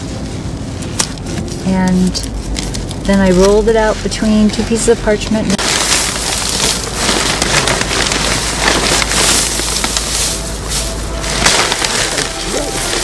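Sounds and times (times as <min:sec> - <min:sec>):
dry hay rustling and crackling: 0:00.0 - 0:13.0
paper bag crinkling: 0:00.8 - 0:13.0.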